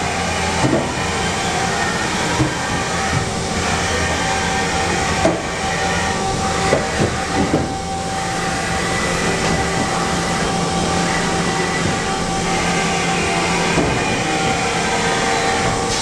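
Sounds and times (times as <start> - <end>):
machine humming with steady tones: 0.0 - 16.0.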